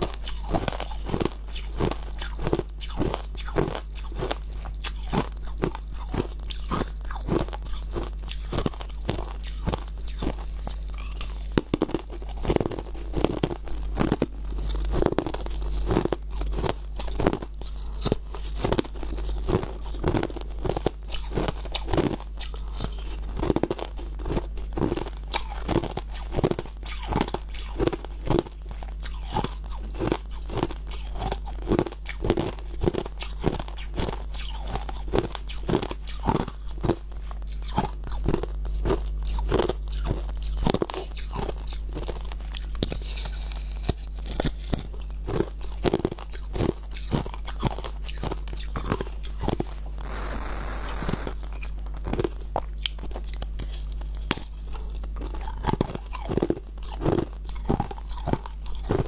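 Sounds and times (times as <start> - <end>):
ice being chewed: 0.0 - 50.0, 51.2 - 59.0.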